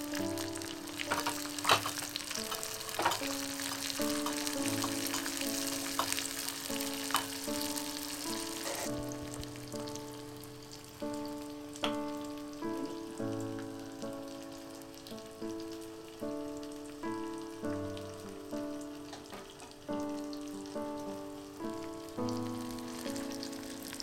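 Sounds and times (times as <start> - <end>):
gentle instrumental music: 0.0 - 24.0
shallots sizzling in pan: 0.0 - 24.0.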